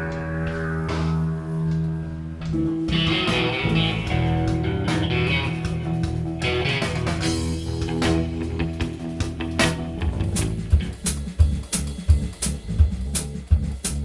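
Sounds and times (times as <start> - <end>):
guitars playing: 0.0 - 11.4
bass line: 0.0 - 14.0.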